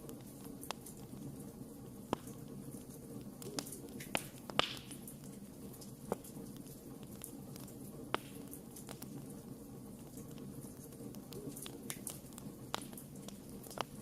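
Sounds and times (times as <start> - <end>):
campfire flame rushing: 0.0 - 14.0
fire crackles and pops: 0.0 - 14.0.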